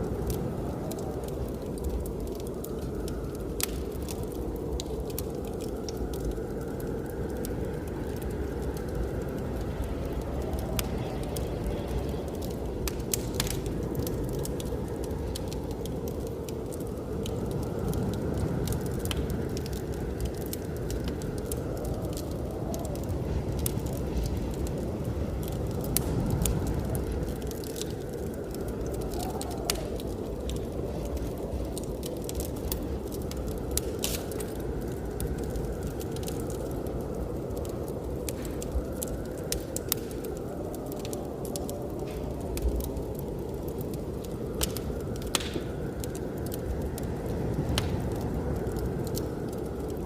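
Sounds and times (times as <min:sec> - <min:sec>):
blizzard wind: 0:00.0 - 0:50.0
wood fire crackling: 0:00.0 - 0:50.0.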